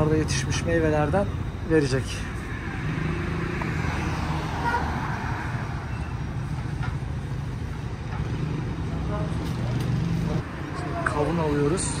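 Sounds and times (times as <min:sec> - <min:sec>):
street traffic engine hum: 0:00.0 - 0:12.0.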